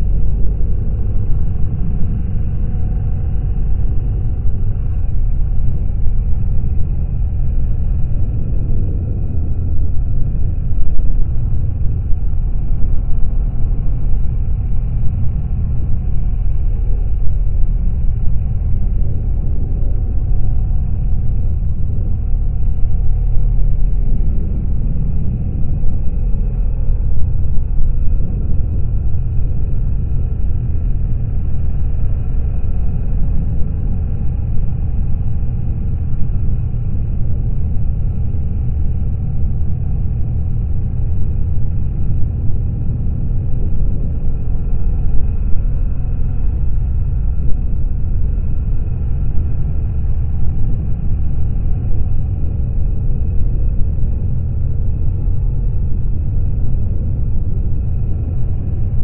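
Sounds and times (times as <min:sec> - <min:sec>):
motorcycle engine rumble: 0:00.0 - 0:59.0
wind and road noise: 0:00.0 - 0:59.0.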